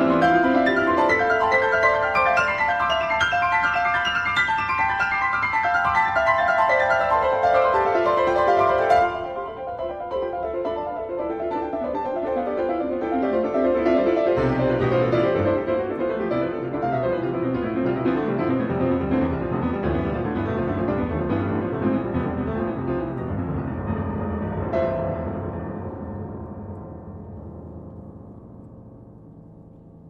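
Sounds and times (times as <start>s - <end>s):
fast classical piano: 0.0s - 30.0s.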